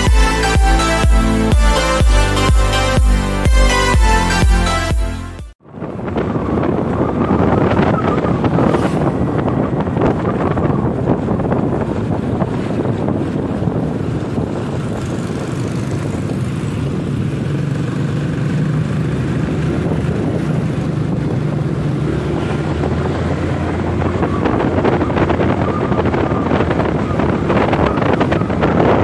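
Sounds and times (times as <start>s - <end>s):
motorcycle engine drone: 0.0s - 29.0s
wind rushing over microphone: 5.6s - 29.0s.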